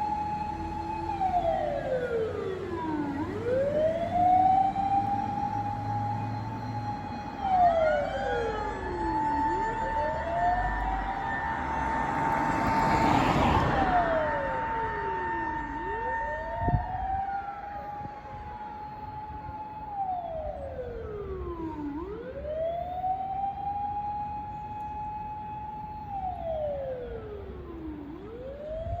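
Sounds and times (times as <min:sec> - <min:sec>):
ambulance siren wailing: 0:00.0 - 0:29.0.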